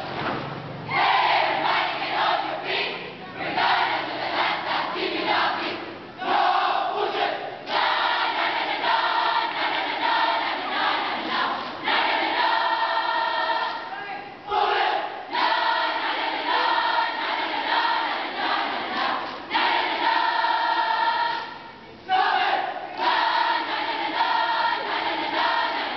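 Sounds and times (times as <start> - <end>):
cheer squad singing in unison: 0.0 - 25.9.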